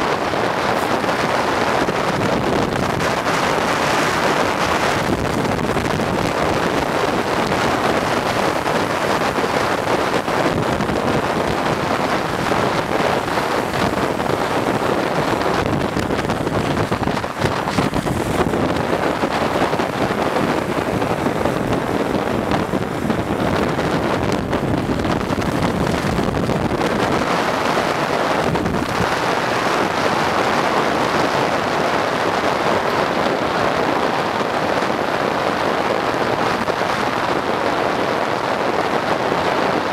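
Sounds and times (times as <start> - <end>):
wheels rolling on asphalt: 0.0 - 39.9
wind rushing over microphone: 0.0 - 39.9.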